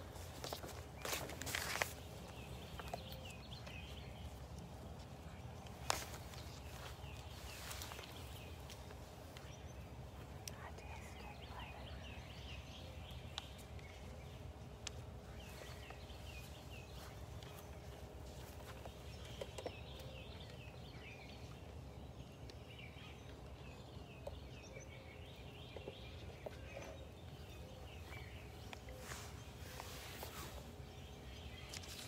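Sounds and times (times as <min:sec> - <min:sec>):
birds chirping: 0:00.0 - 0:32.0
low outdoor rumble: 0:00.0 - 0:32.0.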